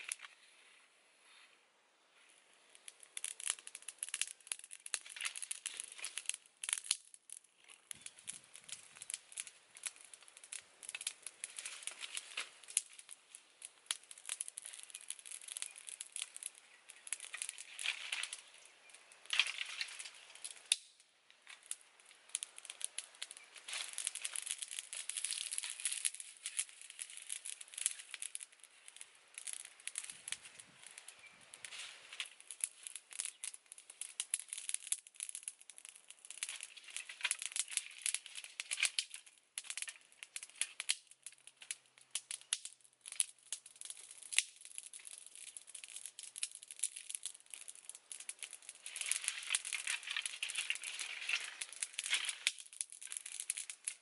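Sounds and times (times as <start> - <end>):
dry leaves and twigs rustling: 0.0 - 0.7, 2.7 - 54.0.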